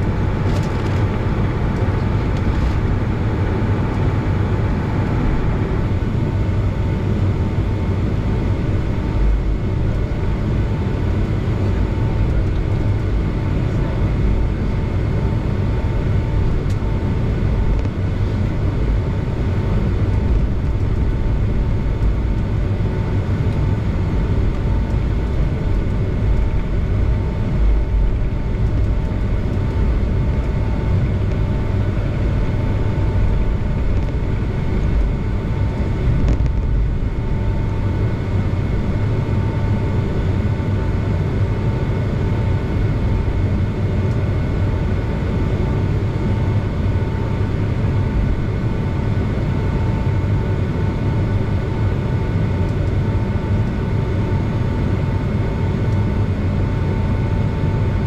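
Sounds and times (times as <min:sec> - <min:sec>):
jet engine rumble: 0:00.0 - 0:58.0
thin steady whine: 0:00.0 - 0:58.0.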